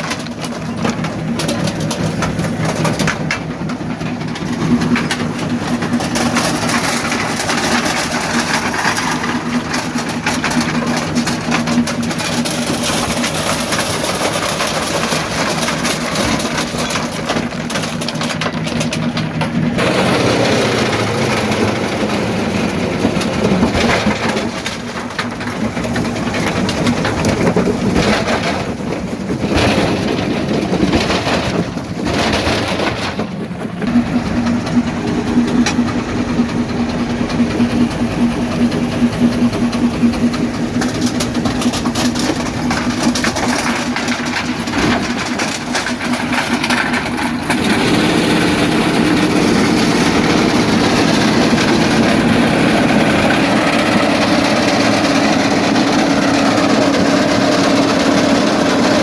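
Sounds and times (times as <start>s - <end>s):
jaw crusher grinding rock: 0.0s - 59.0s
machine hum: 0.0s - 59.0s.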